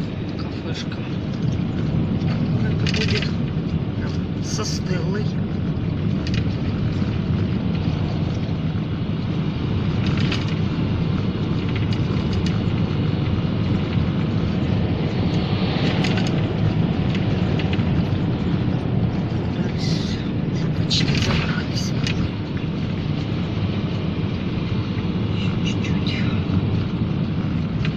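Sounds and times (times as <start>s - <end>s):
car road and engine noise: 0.0s - 27.9s.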